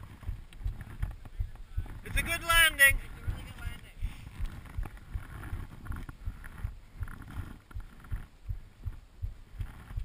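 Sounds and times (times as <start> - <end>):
low muffled thumps: 0.0 - 10.0.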